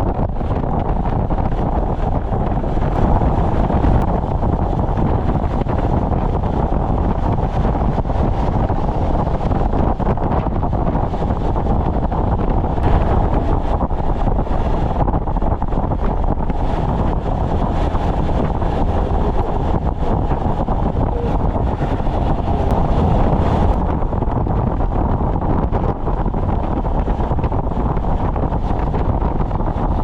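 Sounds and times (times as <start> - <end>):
motorcycle running: 0.0 - 30.0
wind rushing over microphone: 0.0 - 30.0.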